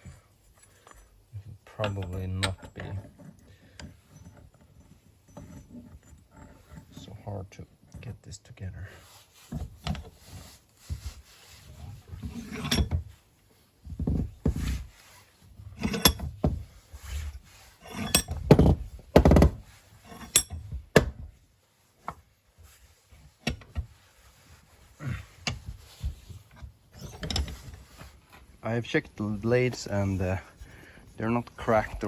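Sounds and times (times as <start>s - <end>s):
metal parts clunking and rubbing: 0.4s - 8.2s, 9.1s - 32.0s.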